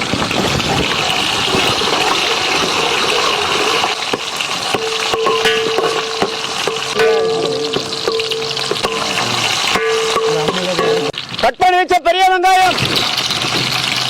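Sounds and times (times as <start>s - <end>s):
shallots sizzling in oil: 0.0s - 11.6s, 12.6s - 14.0s.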